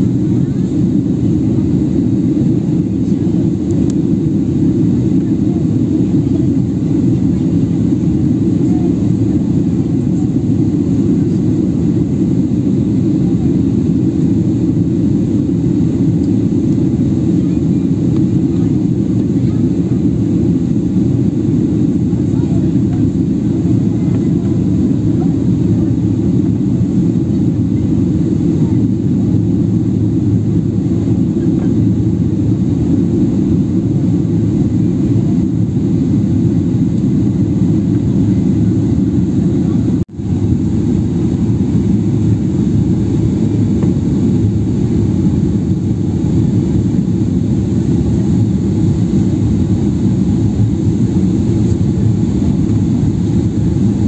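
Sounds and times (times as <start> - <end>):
airliner engines and rushing air: 0.0 - 54.0.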